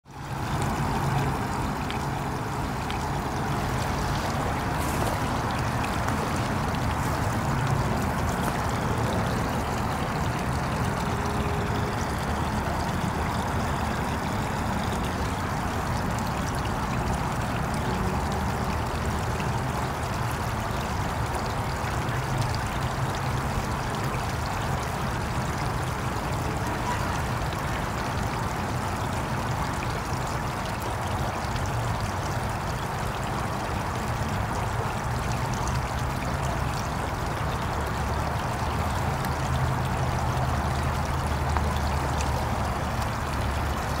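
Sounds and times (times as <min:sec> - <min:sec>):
creek water trickling and splashing: 0:00.0 - 0:44.0.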